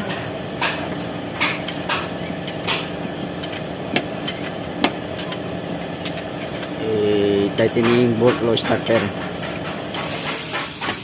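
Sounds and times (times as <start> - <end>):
steady background hum: 0.0 - 10.8.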